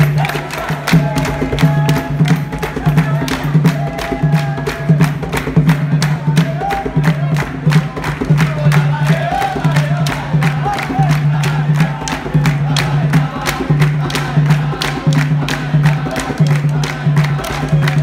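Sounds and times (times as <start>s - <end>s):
drum: 0.0s - 18.0s
voices singing: 0.0s - 18.0s.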